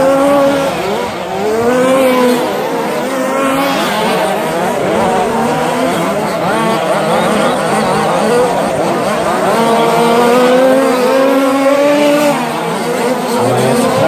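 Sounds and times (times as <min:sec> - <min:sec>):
model race car engines revving: 0:00.0 - 0:14.0.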